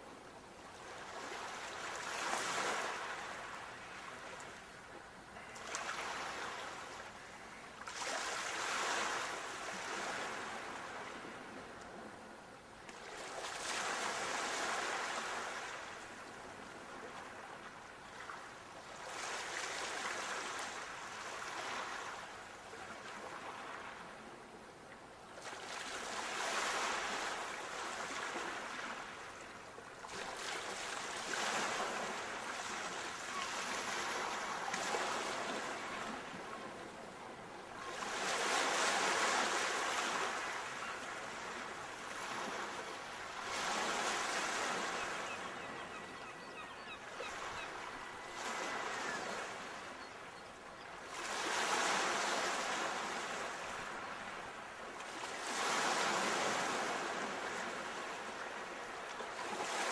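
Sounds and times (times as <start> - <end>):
sea waves breaking on shore: 0.0 - 24.4, 25.3 - 50.3, 51.0 - 59.9.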